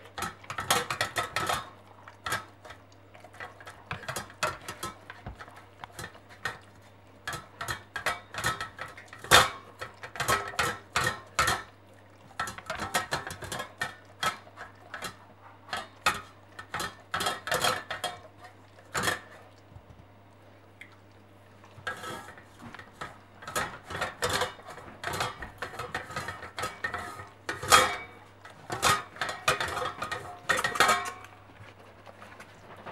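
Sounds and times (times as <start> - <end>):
metal bowl clinking and rattling: 0.0 - 19.5, 21.8 - 32.9
cat eating from metal bowl: 0.0 - 32.9.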